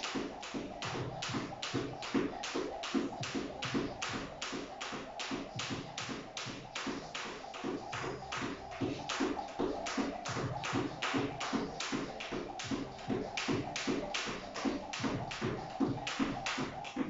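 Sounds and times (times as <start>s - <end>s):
jump rope slapping tiles: 0.0s - 17.0s.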